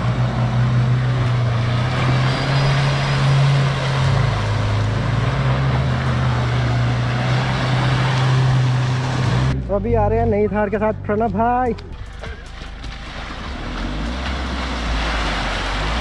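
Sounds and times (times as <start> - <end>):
suv engine driving through mud: 0.0 - 16.0.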